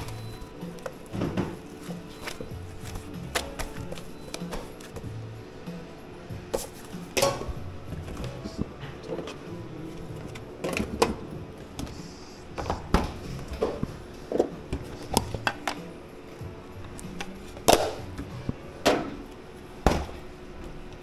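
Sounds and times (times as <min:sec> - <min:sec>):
quiet background music: 0:00.0 - 0:21.0
utensils and dishes clinking: 0:00.0 - 0:21.0.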